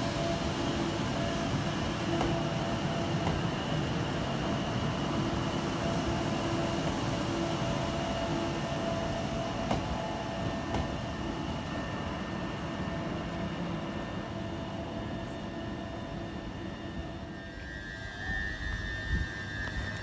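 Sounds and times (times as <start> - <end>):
faint whining tones: 0.0 - 20.0
train rumbling: 0.0 - 20.0.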